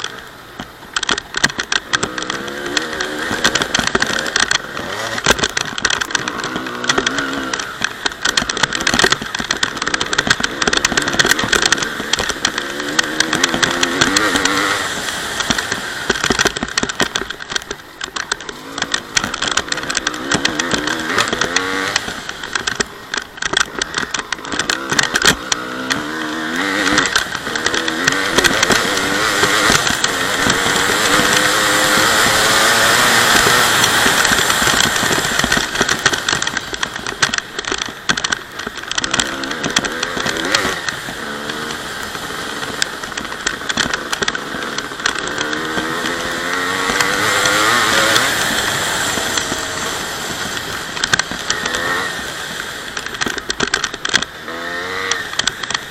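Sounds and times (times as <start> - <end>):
crackle of clicks: 0.0 - 55.9
dirt bike engine revving: 1.0 - 55.9.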